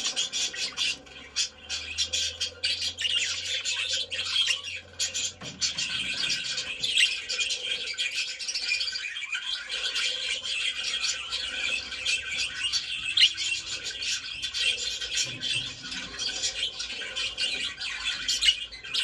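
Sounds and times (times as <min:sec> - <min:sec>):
budgerigars warbling and chirping: 0:00.0 - 0:19.0.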